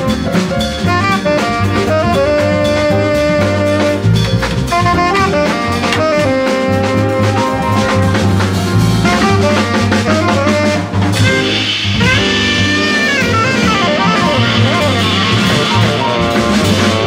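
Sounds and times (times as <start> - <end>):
bass: 0.0 - 17.0
drum kit keeping time: 0.0 - 17.0
piano: 0.0 - 17.0
saxophone melody: 0.9 - 17.0.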